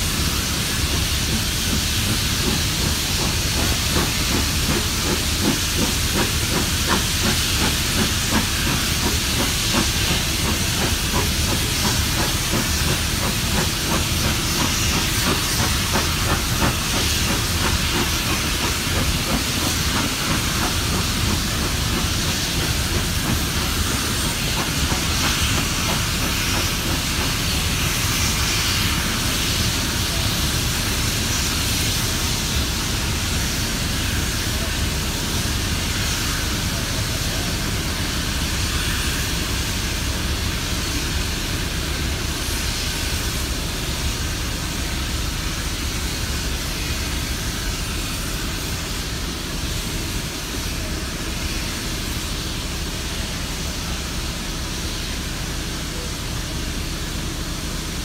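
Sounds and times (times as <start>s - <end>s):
steam train rushing hiss: 0.0s - 58.0s.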